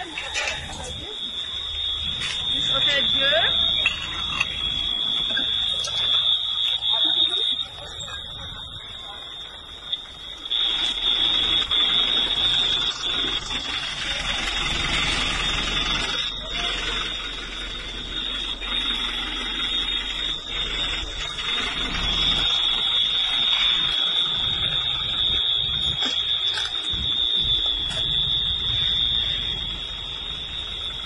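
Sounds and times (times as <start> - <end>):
rough background noise: 0.0 - 30.8
electronic alarm tone: 0.0 - 31.0.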